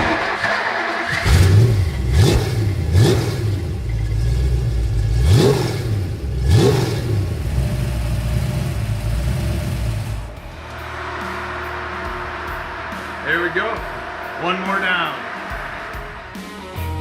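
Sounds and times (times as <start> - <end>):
car engine revving: 0.0 - 16.5.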